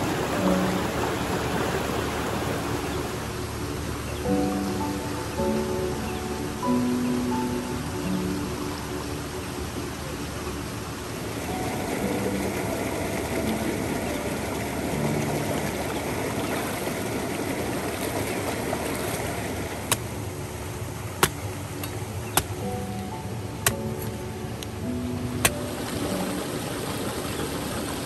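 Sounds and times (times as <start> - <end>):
stream water rushing: 0.0 - 28.0.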